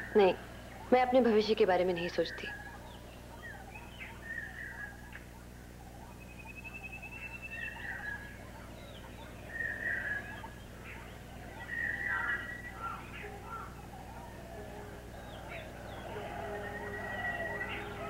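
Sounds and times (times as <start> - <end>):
birds chirping: 0.0 - 18.0
steady low hum: 0.0 - 18.0
thin trilling bird call: 2.0 - 18.0.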